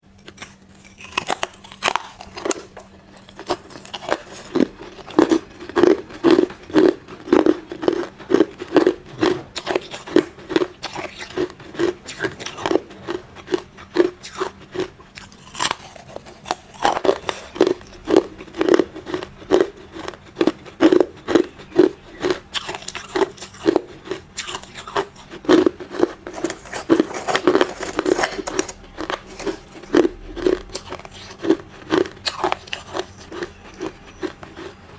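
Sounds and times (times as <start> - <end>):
ice being chewed: 0.2 - 34.9.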